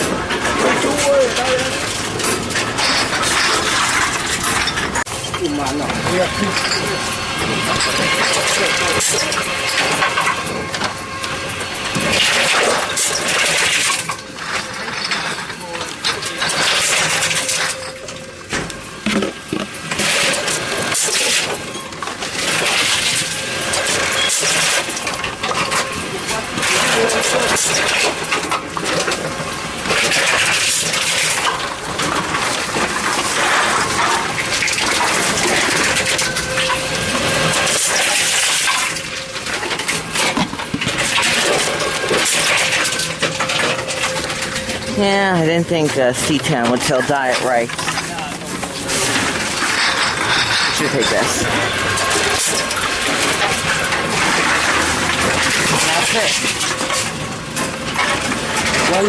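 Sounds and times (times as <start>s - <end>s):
clatter of bottles and cans: 0.0s - 59.0s.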